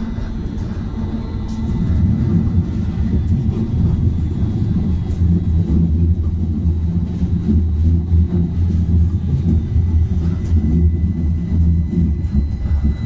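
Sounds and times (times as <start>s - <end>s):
tram rumbling at speed: 0.0s - 13.0s.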